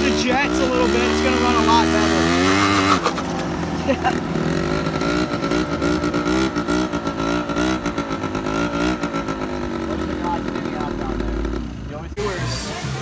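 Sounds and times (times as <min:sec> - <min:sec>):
scooter engine wavering: 0:00.0 - 0:13.0.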